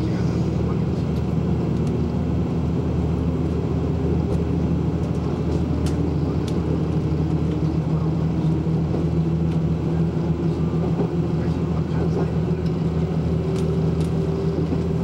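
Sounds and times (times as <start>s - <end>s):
diesel railcar engine drone: 0.0s - 15.0s
train rolling noise: 0.0s - 15.0s.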